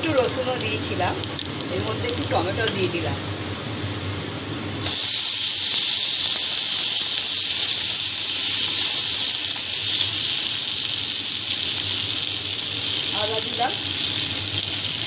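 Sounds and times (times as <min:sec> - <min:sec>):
tomatoes sizzling in hot oil: 0:00.0 - 0:03.5, 0:04.6 - 0:15.0.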